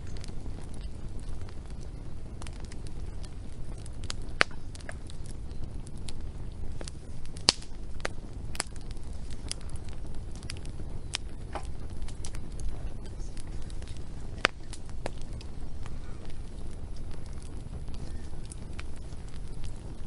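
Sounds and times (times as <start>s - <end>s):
low rumble: 0.0s - 20.0s
sharp pops and snaps: 0.0s - 20.0s
wood fire crackling: 0.0s - 20.0s.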